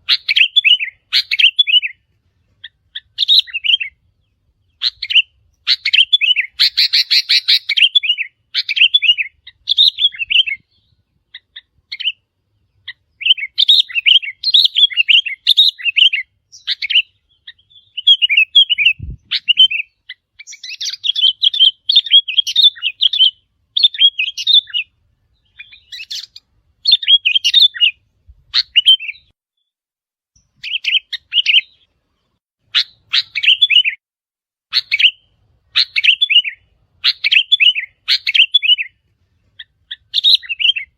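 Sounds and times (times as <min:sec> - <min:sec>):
bird song bubbly chattering: 0:00.0 - 0:02.0, 0:02.6 - 0:29.3, 0:30.4 - 0:34.0, 0:34.7 - 0:39.0, 0:39.6 - 0:40.9.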